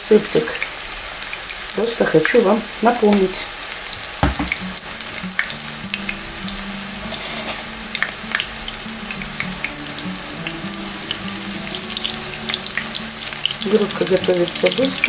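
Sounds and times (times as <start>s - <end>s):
fritters sizzling in frying pan: 0.0s - 15.0s
spitting oil crackles and pops: 0.4s - 15.0s.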